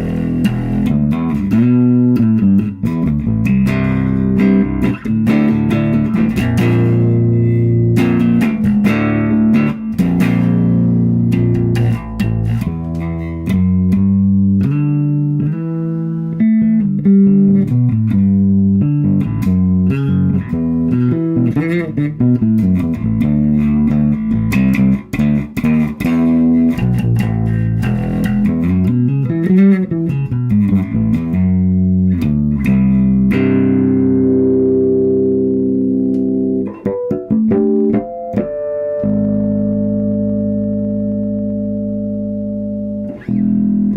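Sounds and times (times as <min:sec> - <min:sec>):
electric bass guitar notes: 0:00.0 - 0:43.9.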